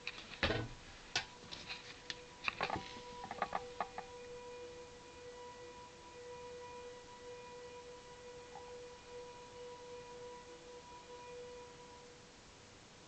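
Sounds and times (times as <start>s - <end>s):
faint horn-like tone: 0.8s - 13.0s.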